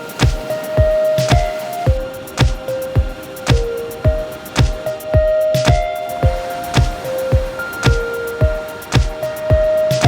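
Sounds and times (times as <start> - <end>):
crisp ticking percussion: 0.0 - 10.0
held synth notes: 0.0 - 10.0
deep kick drums: 0.2 - 10.0.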